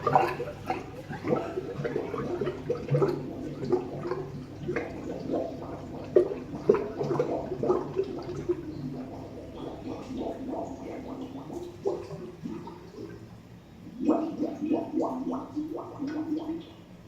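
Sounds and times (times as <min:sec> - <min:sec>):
water gurgling in plumbing: 0:00.0 - 0:17.0.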